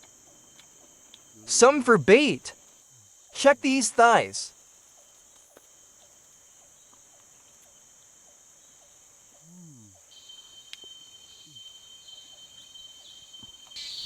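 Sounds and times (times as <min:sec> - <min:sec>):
crickets and insects chirring: 0:00.0 - 0:14.0
insect trill: 0:00.0 - 0:14.0.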